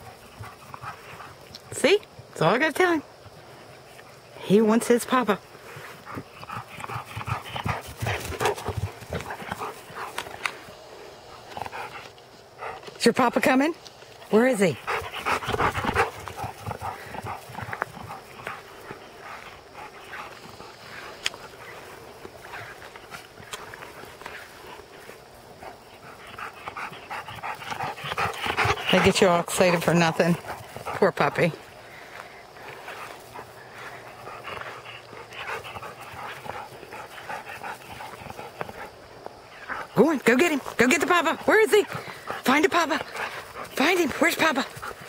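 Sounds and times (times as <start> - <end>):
dog panting: 0.0 - 2.0, 5.5 - 13.4, 14.4 - 45.0.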